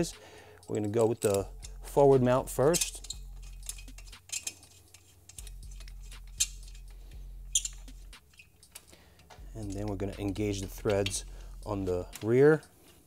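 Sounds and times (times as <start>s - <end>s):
light metal clicks and taps: 0.6s - 1.8s, 2.7s - 12.8s.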